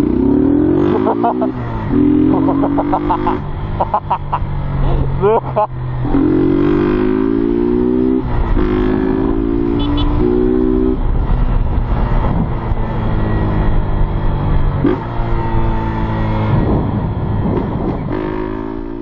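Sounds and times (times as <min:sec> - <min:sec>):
motorcycle engine shifting gears: 0:00.0 - 0:19.0
wind and road noise: 0:00.0 - 0:19.0.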